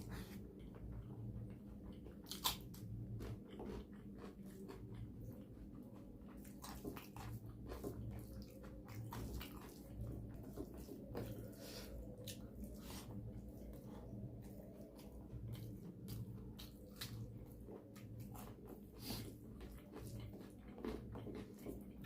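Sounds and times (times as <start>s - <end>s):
person chewing and biting food: 1.9s - 22.0s.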